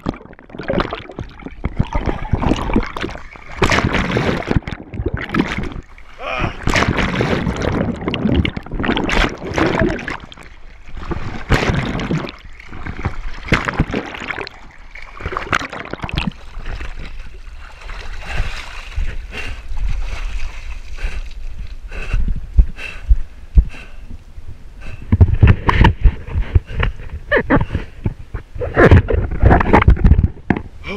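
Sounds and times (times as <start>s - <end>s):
water splashing and churning: 0.0s - 30.9s.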